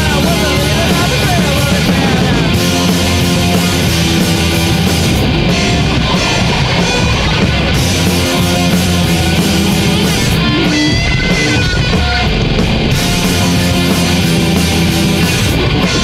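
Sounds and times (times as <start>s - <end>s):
loud rock music with guitar: 0.0s - 16.0s.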